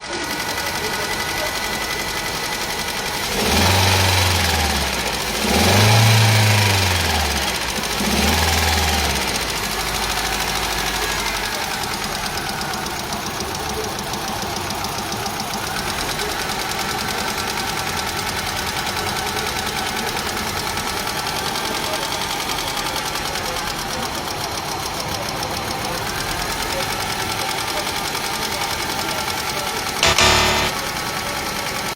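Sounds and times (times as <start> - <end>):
car engine idling and revving: 0.2 - 29.9.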